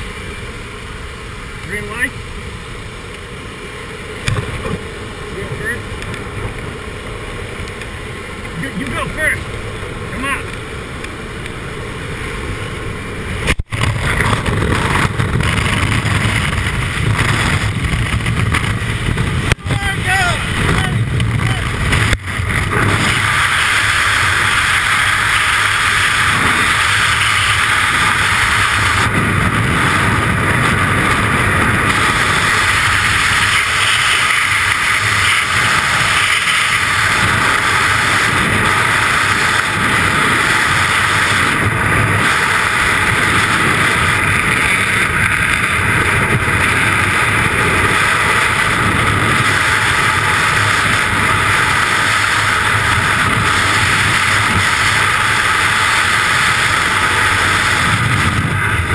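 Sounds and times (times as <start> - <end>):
freefall wind buffeting microphone: 0.0 - 58.9.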